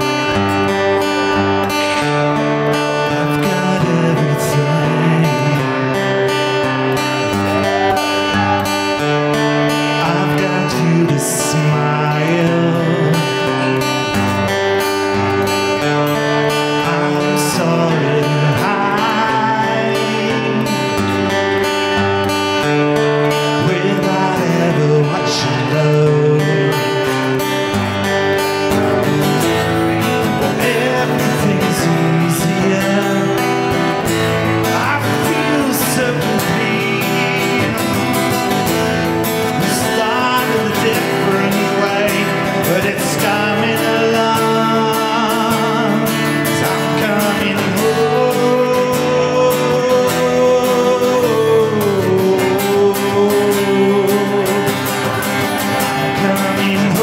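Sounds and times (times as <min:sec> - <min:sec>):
live guitar music: 0:00.0 - 0:57.0.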